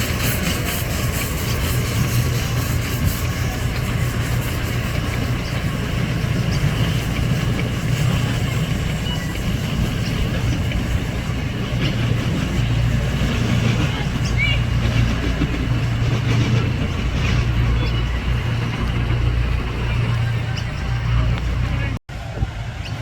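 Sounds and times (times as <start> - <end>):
miniature train rumbling on track: 0.0 - 23.0.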